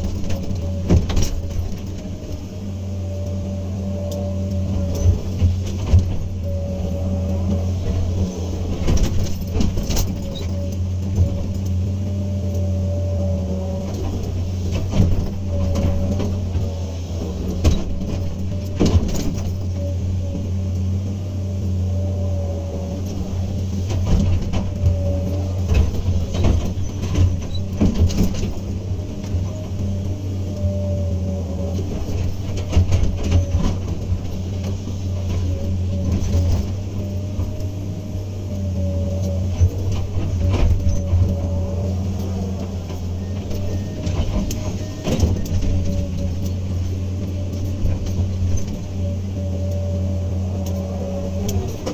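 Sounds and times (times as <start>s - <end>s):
excavator diesel engine: 0.0s - 51.9s
hydraulic whine: 0.0s - 51.9s.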